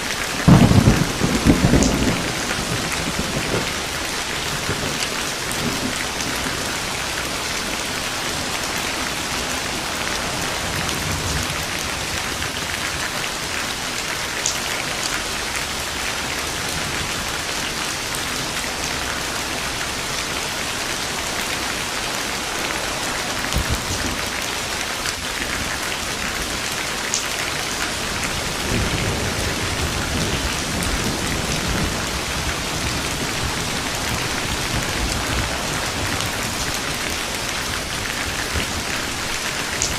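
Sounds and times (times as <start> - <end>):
heavy rain falling: 0.0 - 39.9
distant thunder rumbles: 0.4 - 13.2, 16.5 - 26.7, 27.6 - 39.9.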